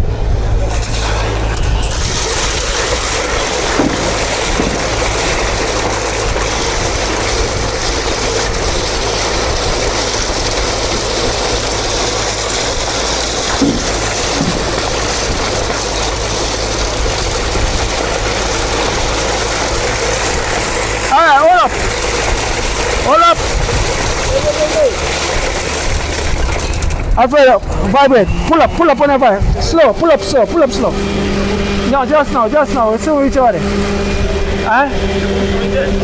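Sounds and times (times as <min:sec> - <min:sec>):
construction machinery engine running: 0:00.0 - 0:36.0.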